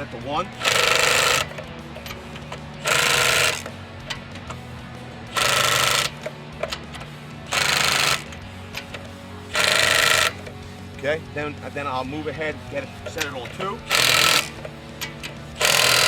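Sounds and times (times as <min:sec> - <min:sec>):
impact wrench hammering: 0:00.0 - 0:04.6, 0:05.3 - 0:10.6, 0:13.1 - 0:16.0.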